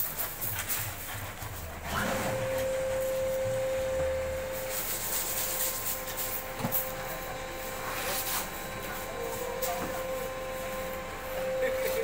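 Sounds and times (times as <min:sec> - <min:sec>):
machine hum: 0:00.4 - 0:12.0.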